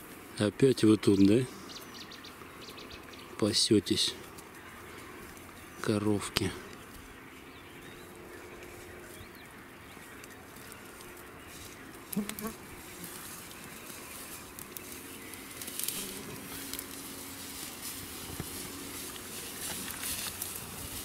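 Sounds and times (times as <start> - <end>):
insects buzzing: 1.1 - 21.0.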